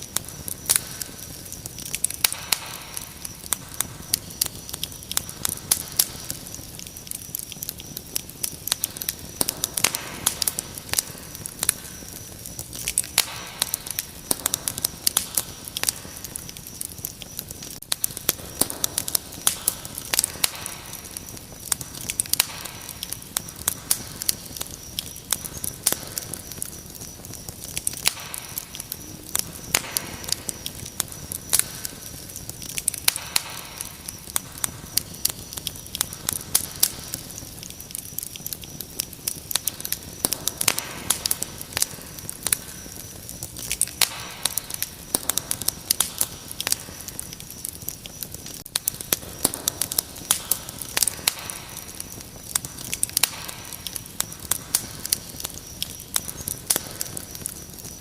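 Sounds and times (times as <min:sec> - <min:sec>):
crickets trilling: 0:00.0 - 0:58.0
wood fire crackling and popping: 0:00.0 - 0:58.0.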